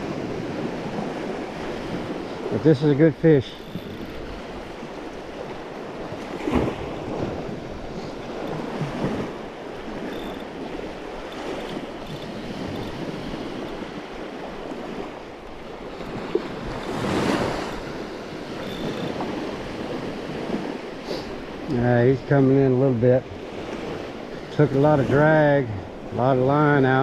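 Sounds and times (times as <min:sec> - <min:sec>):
wind buffeting microphone: 0:00.0 - 0:22.4
surf waves washing on beach: 0:00.0 - 0:27.0.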